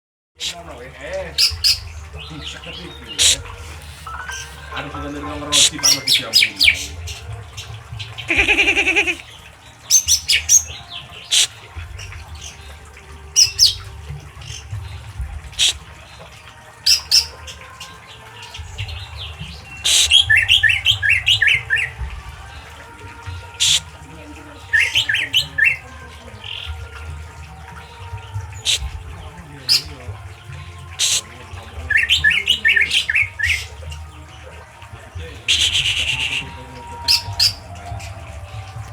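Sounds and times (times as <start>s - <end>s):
songbird chirping: 0.4s - 38.9s.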